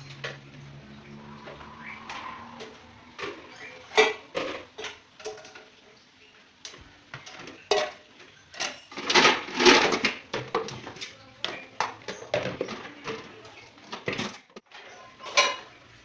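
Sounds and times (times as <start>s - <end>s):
dishes and utensils clinking: 0.0s - 5.8s, 7.1s - 15.8s.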